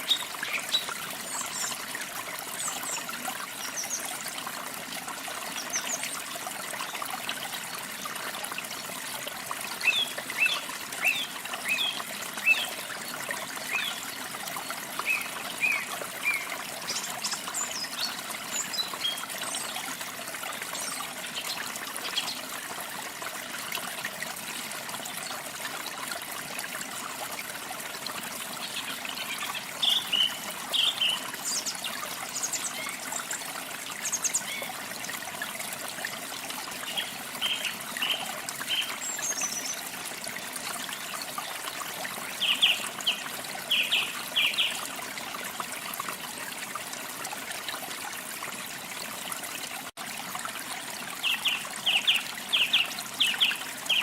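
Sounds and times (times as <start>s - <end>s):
running water trickling: 0.0s - 54.0s.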